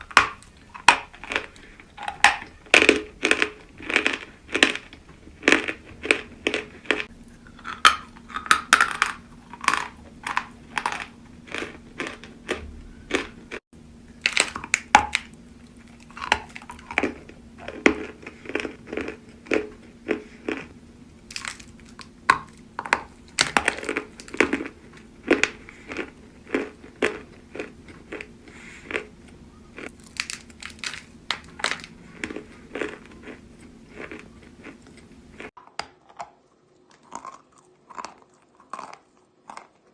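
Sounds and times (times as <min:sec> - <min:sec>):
chalk being chewed crunching: 0:00.0 - 0:13.6, 0:14.2 - 0:39.9.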